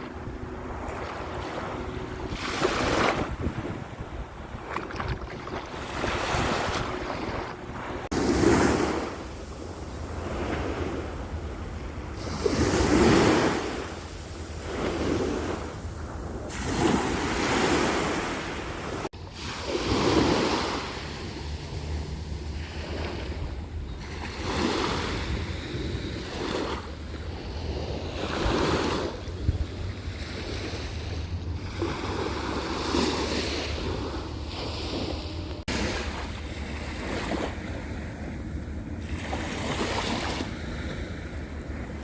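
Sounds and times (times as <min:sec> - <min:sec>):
ocean waves breaking on shore: 0:00.0 - 0:42.0
wind rumble on microphone: 0:00.0 - 0:42.0.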